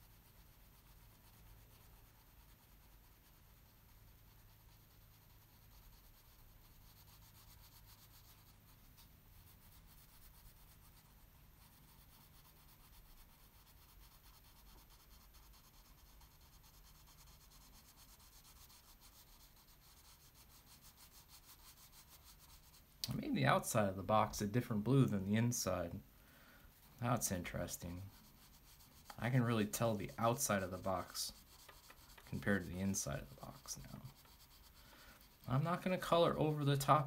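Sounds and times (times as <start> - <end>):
crayon rubbing on paper: 0.0 - 26.0, 26.7 - 37.0.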